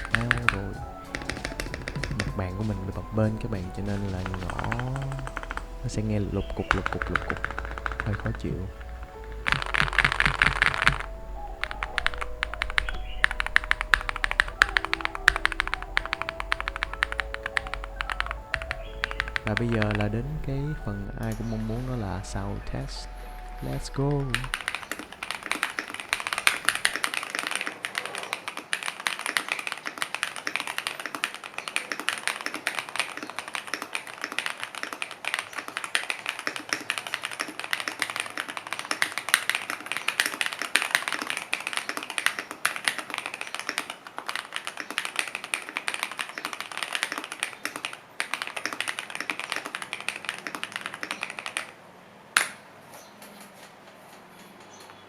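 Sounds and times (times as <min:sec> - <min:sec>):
mechanical keyboard typing: 0:00.0 - 0:51.7.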